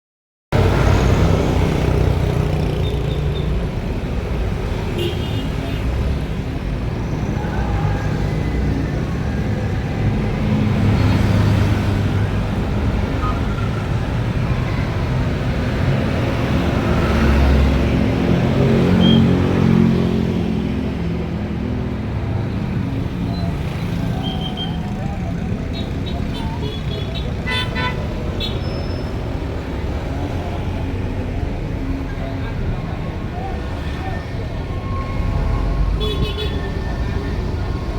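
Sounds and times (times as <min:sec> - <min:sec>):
road traffic: 0:00.5 - 0:37.9
bus diesel engines running: 0:00.6 - 0:37.9.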